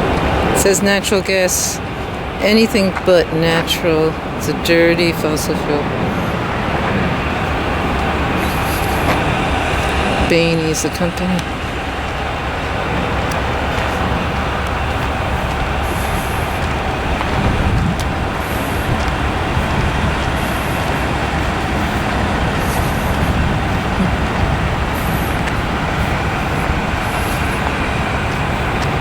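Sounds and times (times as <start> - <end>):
diesel truck engine rumble: 0.0 - 29.0.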